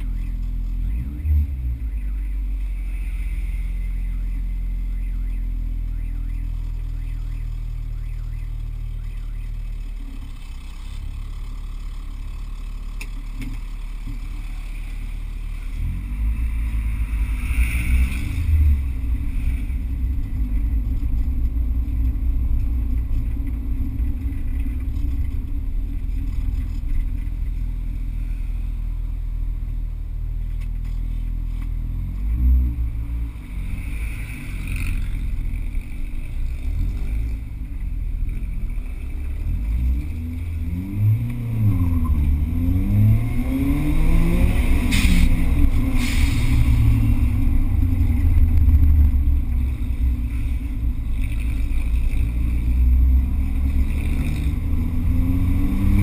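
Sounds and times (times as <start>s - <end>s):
car engine accelerating: 0.0s - 56.0s
road rumble: 0.0s - 56.0s.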